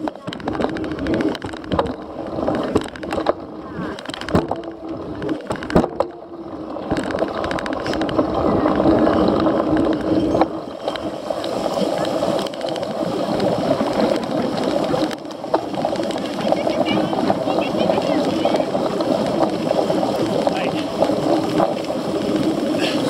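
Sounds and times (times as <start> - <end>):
bike knocking and clattering: 0.0 - 23.0
bike tyres on rough ground: 0.0 - 23.0.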